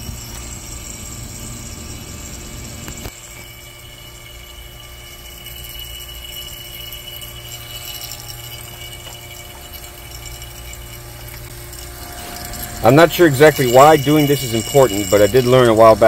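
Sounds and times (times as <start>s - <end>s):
vacuum pump humming and hissing: 0.0s - 16.0s.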